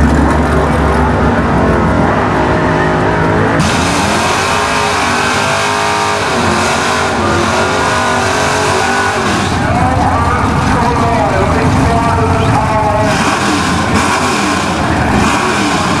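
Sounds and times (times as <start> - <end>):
another car engine: 0.0 - 16.0
car engine revving high: 0.0 - 16.0.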